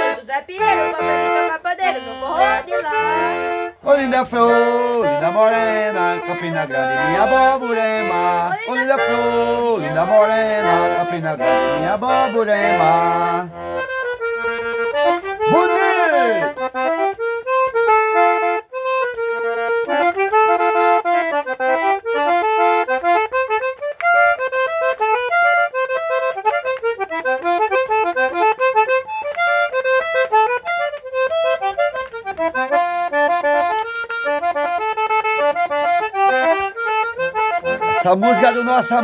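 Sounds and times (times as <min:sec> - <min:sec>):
button accordion playing lively tune: 0:00.0 - 0:39.0.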